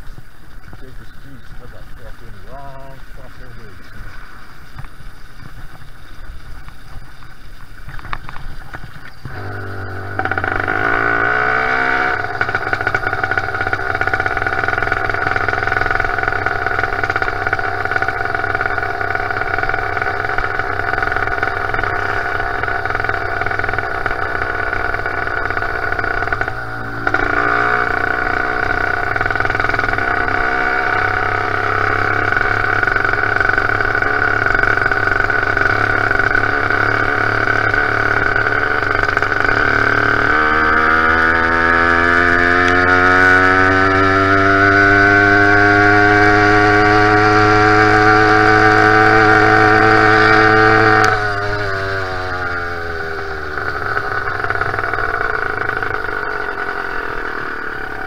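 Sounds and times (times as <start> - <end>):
two-stroke bicycle engine revving: 0.0 - 58.0.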